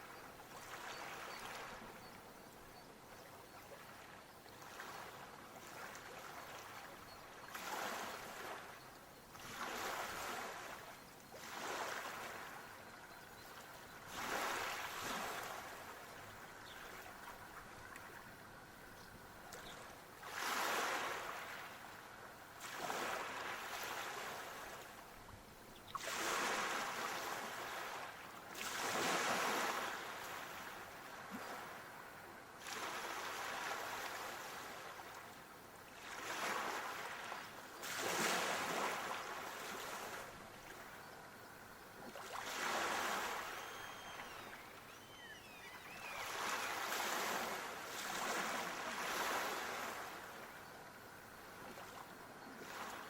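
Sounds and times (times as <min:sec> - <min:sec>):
small waves washing onto shore: 0:00.0 - 0:02.2, 0:03.5 - 0:53.0.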